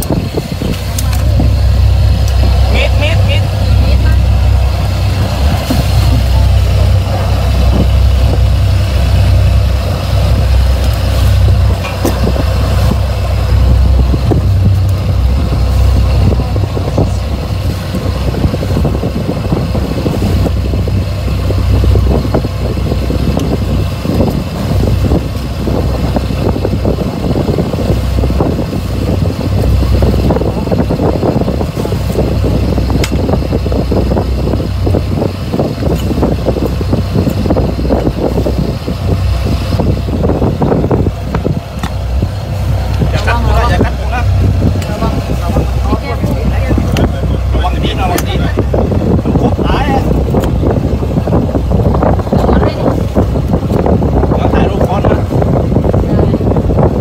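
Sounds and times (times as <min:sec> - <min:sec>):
boat engine low rumble: 0:00.0 - 0:57.0.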